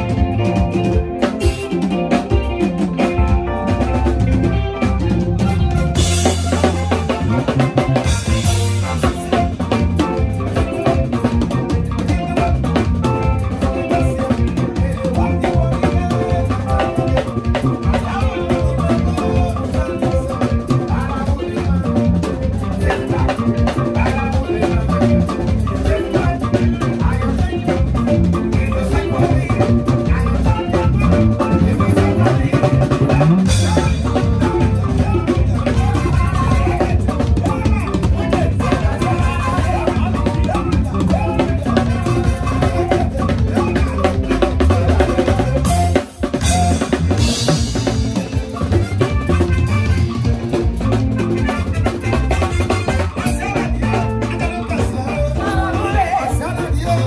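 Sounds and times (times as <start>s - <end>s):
drum kit groove: 0.0s - 57.0s
electric bass guitar: 0.0s - 57.0s.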